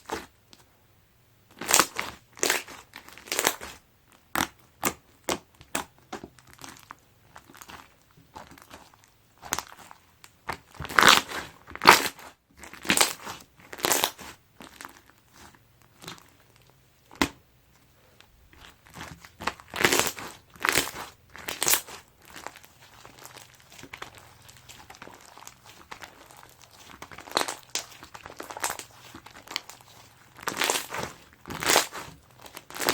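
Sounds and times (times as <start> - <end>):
crunchy slime squishing: 0.0 - 0.4, 1.5 - 32.9.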